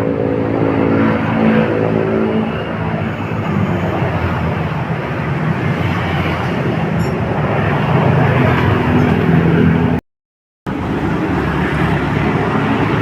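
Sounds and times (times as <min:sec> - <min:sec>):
noisy rush: 0:00.0 - 0:10.0, 0:10.7 - 0:13.0.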